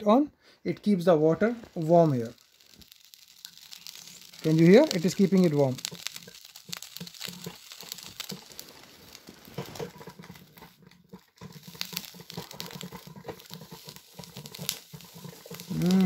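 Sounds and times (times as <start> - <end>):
hot plate crackling and ticking: 0.0 - 16.0.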